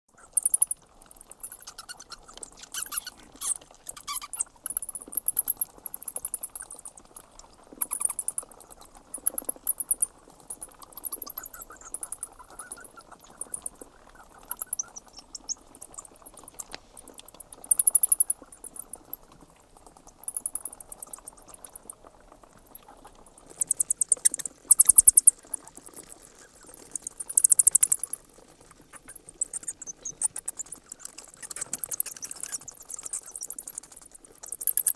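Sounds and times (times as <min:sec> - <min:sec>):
bats chittering: 0:00.2 - 0:34.9.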